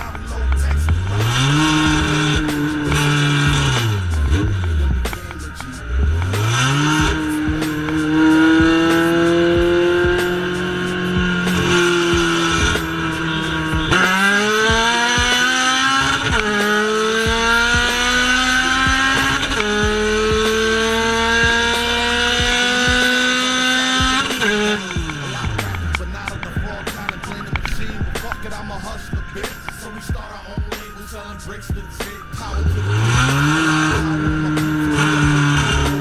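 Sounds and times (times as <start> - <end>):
car engine revving high: 0.0 - 36.0.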